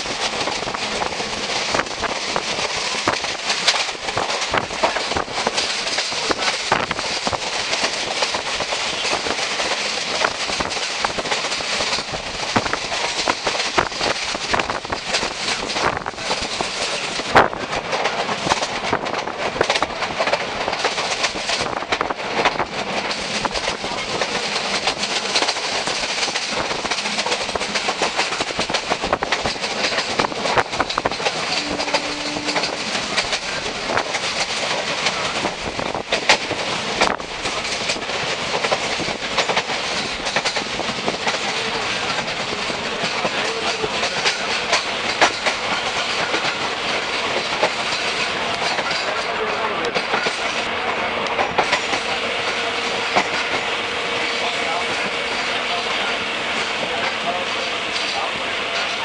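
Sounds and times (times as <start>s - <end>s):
train wind and rail noise: 0.0s - 59.0s
wheels clacking over rail joints: 0.0s - 59.0s.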